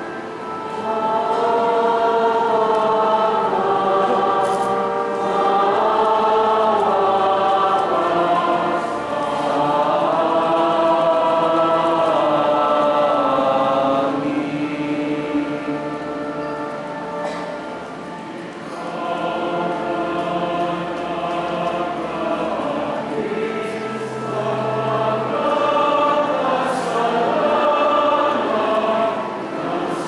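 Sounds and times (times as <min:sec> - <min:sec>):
choir singing a hymn: 0:00.0 - 0:30.0.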